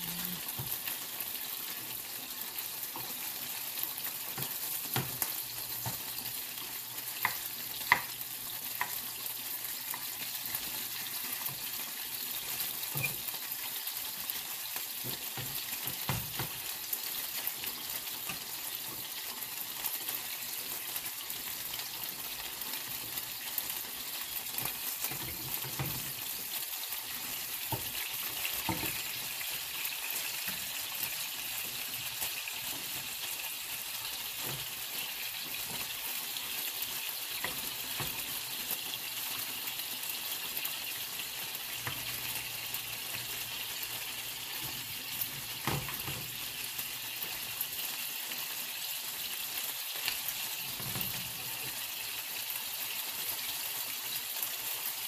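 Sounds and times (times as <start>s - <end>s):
sausages sizzling in a pan: 0.0s - 55.0s.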